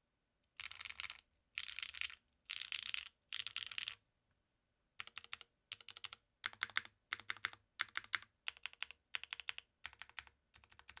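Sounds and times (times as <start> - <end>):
mechanical keyboard typing: 0.6 - 4.0, 5.0 - 11.0.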